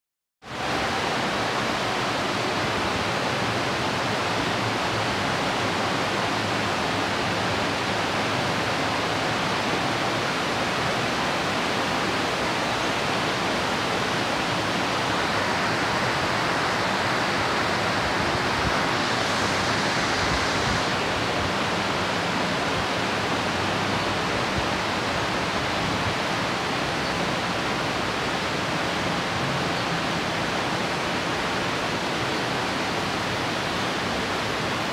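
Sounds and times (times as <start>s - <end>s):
heavy rain hissing: 0.5s - 34.9s.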